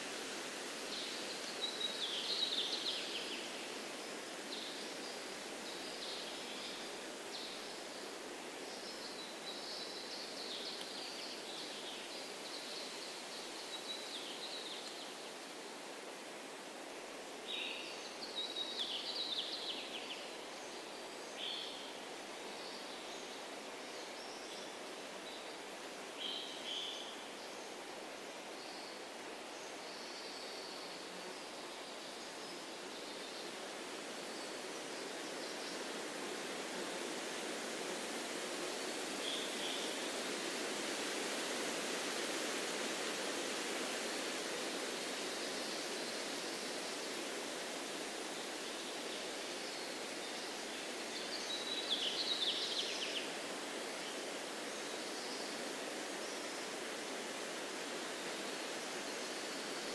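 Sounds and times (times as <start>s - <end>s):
breeze rushing through trees: 0.0s - 59.9s.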